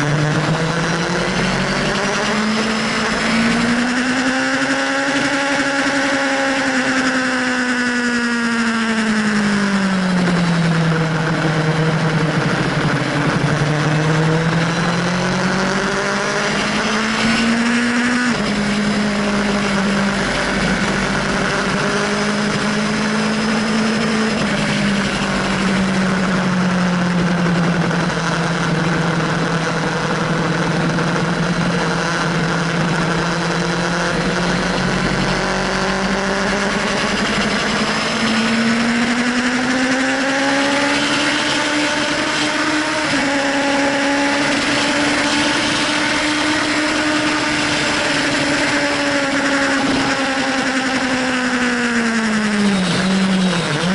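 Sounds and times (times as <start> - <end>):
motorcycle engine at high revs: 0.0 - 53.9.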